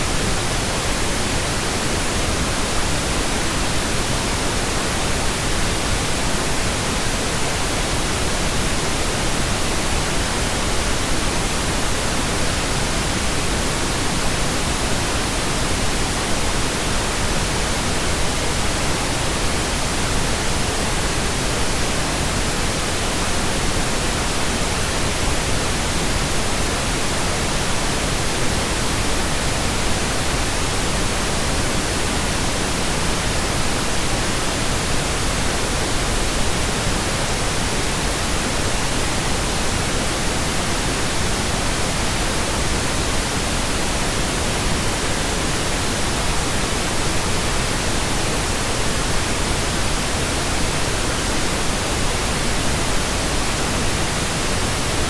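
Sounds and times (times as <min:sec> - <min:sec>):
steady pink noise hiss: 0:00.0 - 0:55.0.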